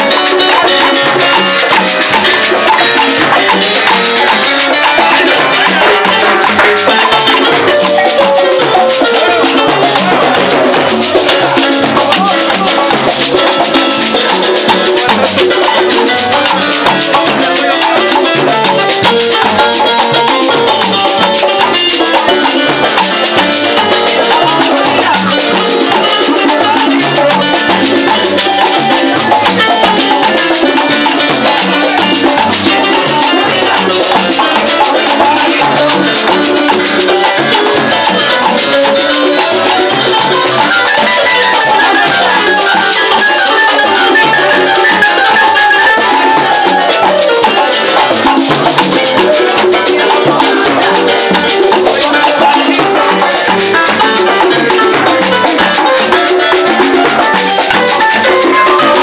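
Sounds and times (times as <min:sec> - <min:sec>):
salsa band playing: 0:00.0 - 0:59.0
timbales and hand drums: 0:00.0 - 0:59.0.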